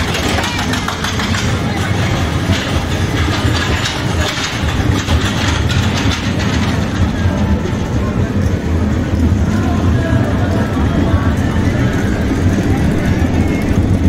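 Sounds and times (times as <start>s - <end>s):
ride low rumble: 0.0s - 14.0s
ride rattling clatter: 0.0s - 14.0s.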